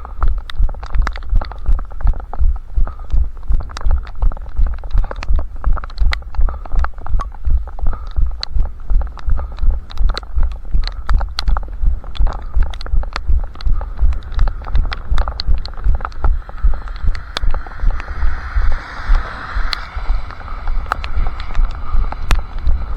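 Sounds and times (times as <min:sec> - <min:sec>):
small sharp clicks: 0:00.0 - 0:22.9.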